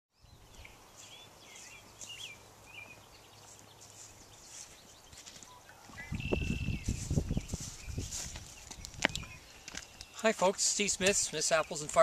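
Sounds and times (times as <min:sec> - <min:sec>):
faint outdoor background noise: 0:00.1 - 0:12.0
songbirds chirping: 0:00.1 - 0:12.0.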